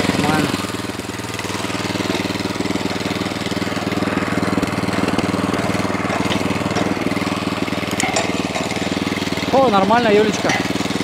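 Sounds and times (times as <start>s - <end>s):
walk-behind tractor engine running: 0.0s - 11.0s.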